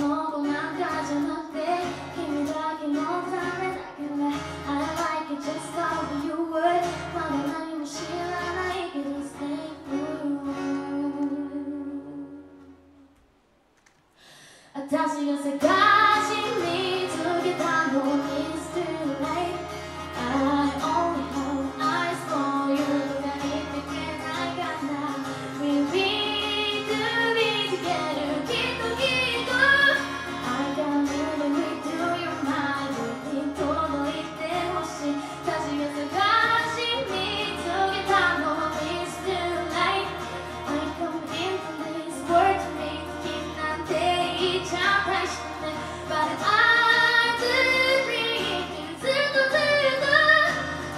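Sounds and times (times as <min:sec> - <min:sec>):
woman singing pop song: 0:00.0 - 0:12.7, 0:14.7 - 0:50.9
acoustic guitar: 0:00.0 - 0:50.9.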